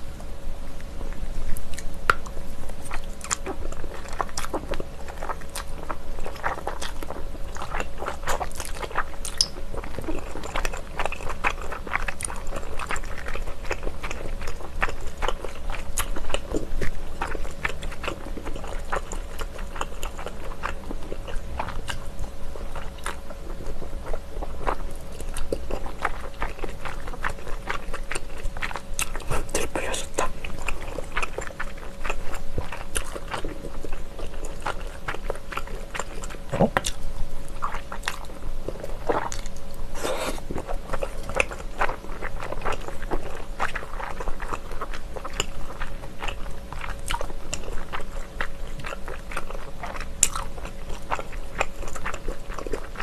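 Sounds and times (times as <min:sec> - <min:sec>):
wet chewing and slurping: 0:01.2 - 0:53.0.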